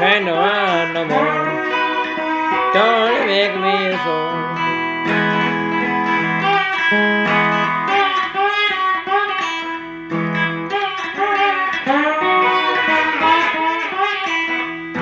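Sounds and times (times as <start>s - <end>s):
guitar with bending notes: 0.0s - 15.0s.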